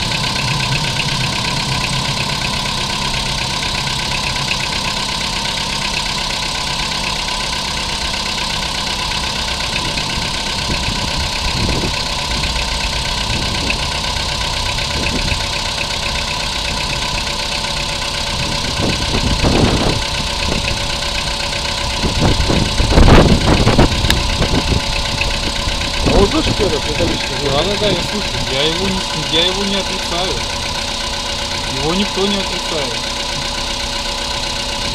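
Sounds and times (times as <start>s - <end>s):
car engine idling: 0.0s - 34.9s
metallic engine knock: 0.0s - 34.9s
steady whine: 0.0s - 34.9s.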